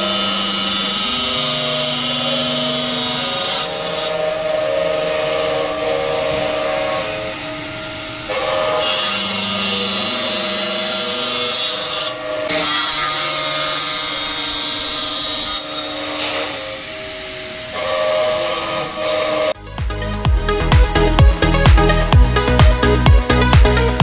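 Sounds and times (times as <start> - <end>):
blade hissing cutting stone: 0.0 - 19.6
cutting saw whining: 0.0 - 24.0.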